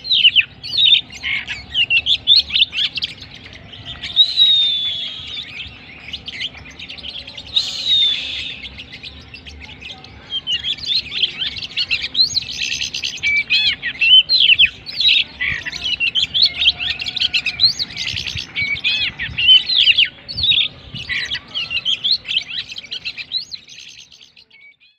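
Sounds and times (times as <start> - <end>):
bird singing whistles and chirps: 0.0 - 24.9.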